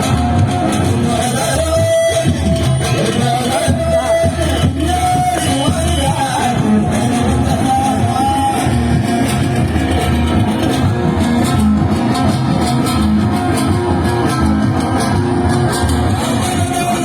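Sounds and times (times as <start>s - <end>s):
amplified plucked-string instrument: 0.0s - 17.0s
steady drum beat: 0.0s - 17.0s.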